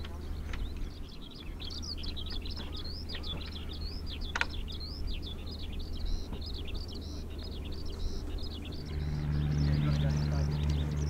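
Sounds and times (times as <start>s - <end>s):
birds chirping and trilling: 0.0s - 11.0s
low steady hum: 0.0s - 11.0s.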